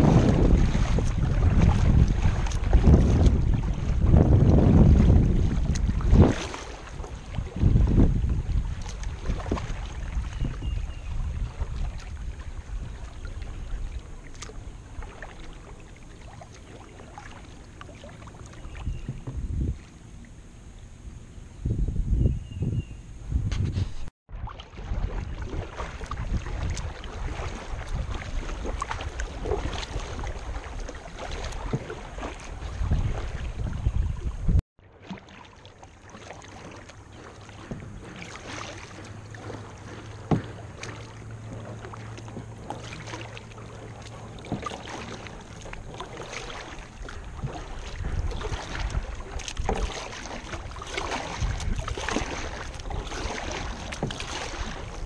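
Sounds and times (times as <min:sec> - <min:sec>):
kayak paddle splashing water: 0:00.0 - 0:20.3, 0:24.3 - 0:55.0
wind rumbling on microphone: 0:00.0 - 0:34.6, 0:37.5 - 0:55.0.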